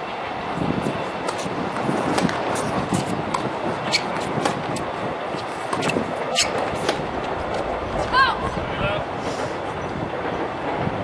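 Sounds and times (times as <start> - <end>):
steady rumbling noise: 0.0 - 11.0.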